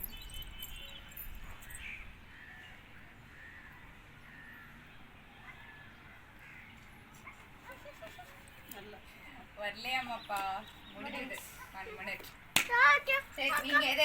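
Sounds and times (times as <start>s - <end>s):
faint distant bird calls: 0.0s - 12.2s.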